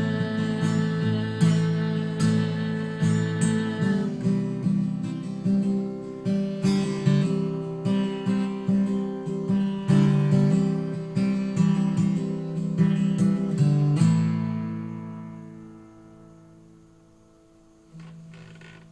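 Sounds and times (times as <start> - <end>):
acoustic guitar playing: 0.0 - 18.9.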